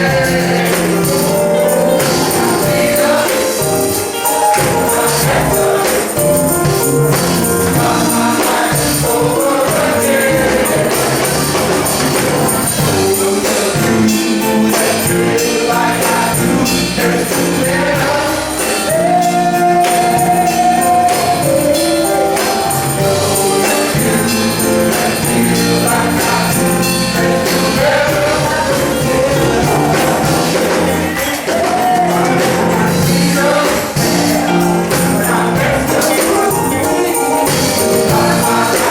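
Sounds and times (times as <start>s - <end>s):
instrumental accompaniment: 0.0s - 38.9s
male chorus singing gospel: 0.0s - 38.9s.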